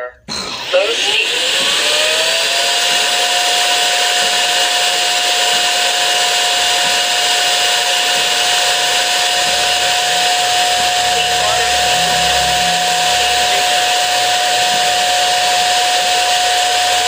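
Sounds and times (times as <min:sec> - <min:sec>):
vacuum motor whine: 0:00.0 - 0:17.0.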